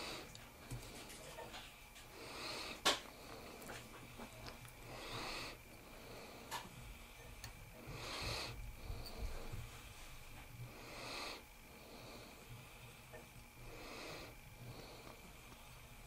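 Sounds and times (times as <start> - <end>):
soft hissing breaths: 0.0 - 16.0.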